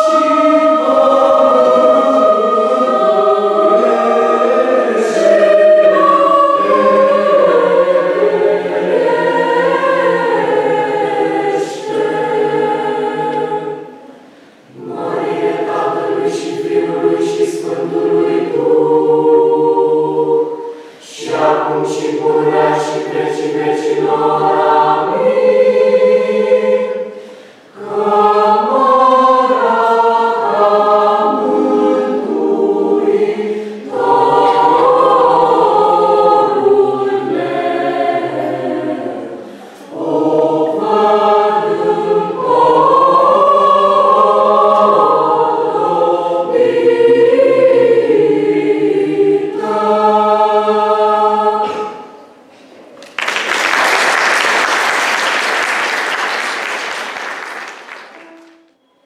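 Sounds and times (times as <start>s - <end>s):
choir singing unaccompanied: 0.0s - 52.6s.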